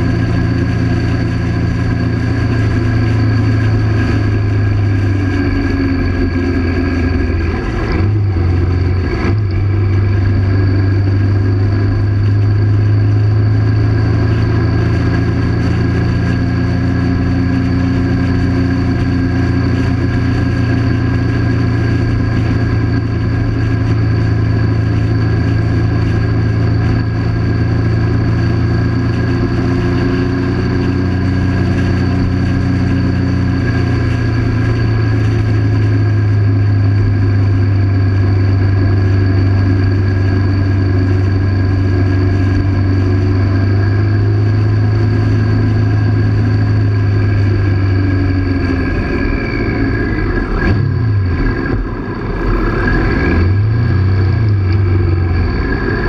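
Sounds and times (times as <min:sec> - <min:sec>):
motorcycle engine cruising: 0:00.0 - 0:56.0
road and wind noise: 0:00.0 - 0:56.0.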